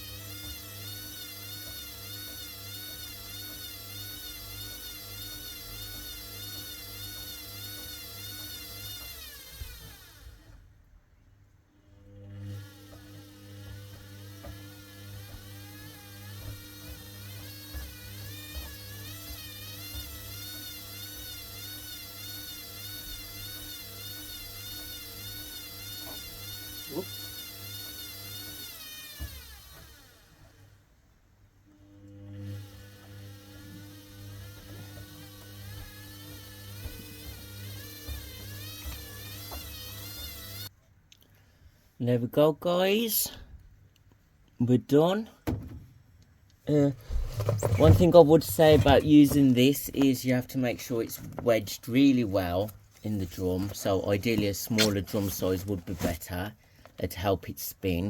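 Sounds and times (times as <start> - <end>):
washer-dryer motor whining: 0.0 - 11.0, 11.9 - 40.7, 46.7 - 57.1.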